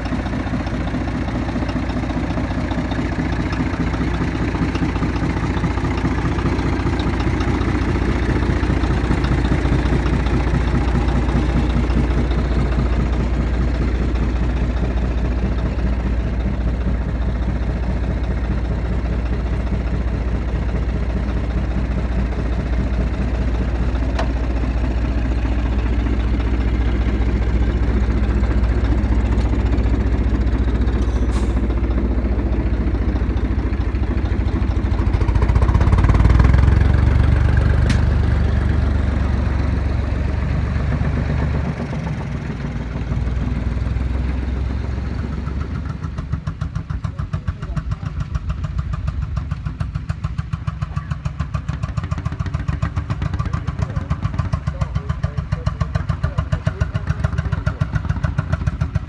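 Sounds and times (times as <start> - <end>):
single-cylinder engine chugging: 0.0 - 59.0
tractor engine running: 0.0 - 59.0.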